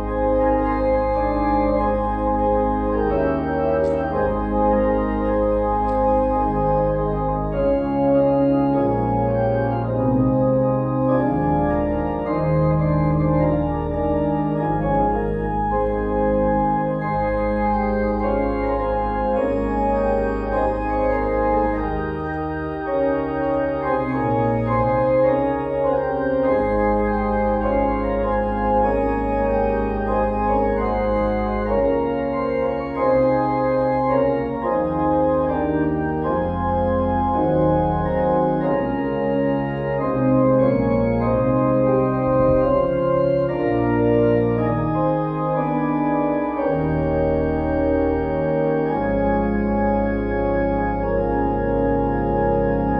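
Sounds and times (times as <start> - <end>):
church organ playing chords: 0.0 - 52.9.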